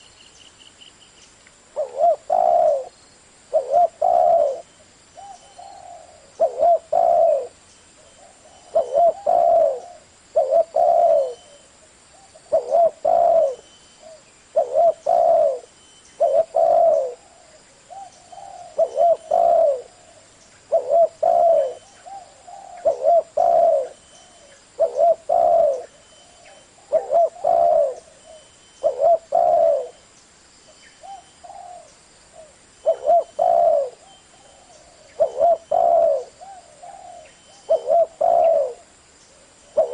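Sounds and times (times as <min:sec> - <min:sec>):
dove cooing: 0:01.7 - 0:02.9, 0:03.5 - 0:30.0, 0:31.0 - 0:39.9.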